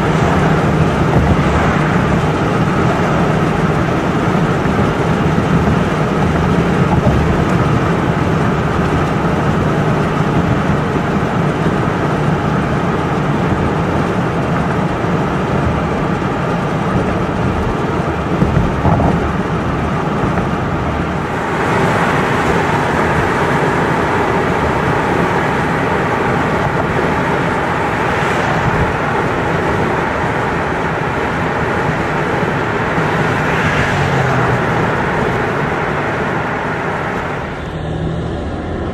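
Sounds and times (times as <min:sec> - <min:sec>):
car engine and exhaust: 0:00.0 - 0:38.9
tyre and traffic rumble: 0:00.0 - 0:38.9.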